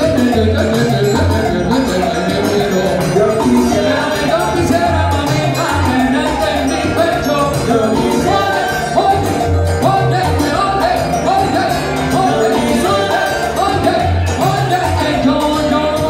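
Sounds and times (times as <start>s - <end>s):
congas: 0.0s - 16.0s
live salsa band playing: 0.0s - 16.0s.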